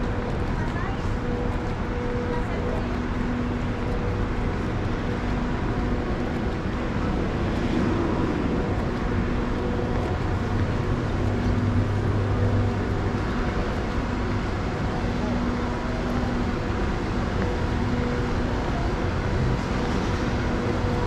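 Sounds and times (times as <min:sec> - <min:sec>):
urban traffic noise: 0:00.0 - 0:21.0.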